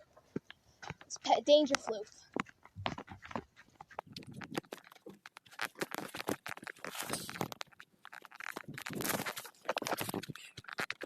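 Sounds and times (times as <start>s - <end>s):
chicken scuffling and scratching: 0.0s - 11.0s.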